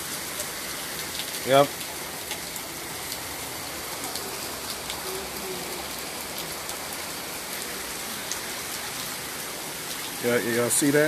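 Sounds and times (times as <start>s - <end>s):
hard rain falling: 0.0s - 11.0s.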